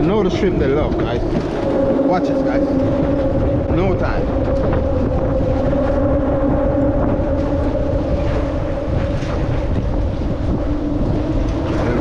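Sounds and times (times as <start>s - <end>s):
steady hum: 0.0s - 12.0s
wind buffeting microphone: 0.0s - 12.0s.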